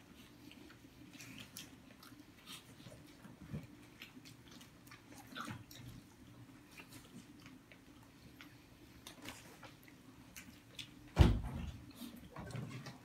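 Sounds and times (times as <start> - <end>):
low steady hum: 0.0 - 13.0
people chewing and lip smacking: 0.0 - 13.0.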